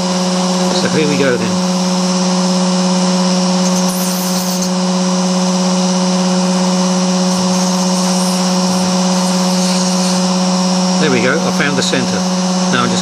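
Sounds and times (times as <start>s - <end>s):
electric drill motor whine: 0.0s - 13.0s.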